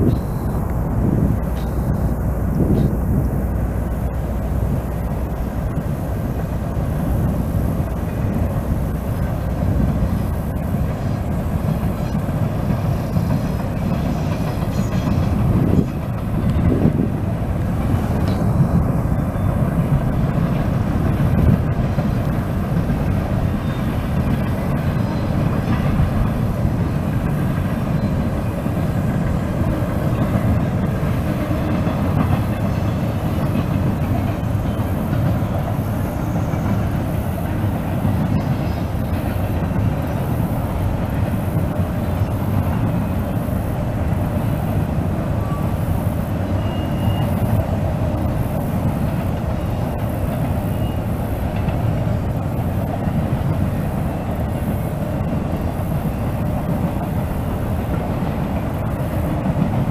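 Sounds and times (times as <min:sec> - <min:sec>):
train rumbling past: 0:00.0 - 0:59.9.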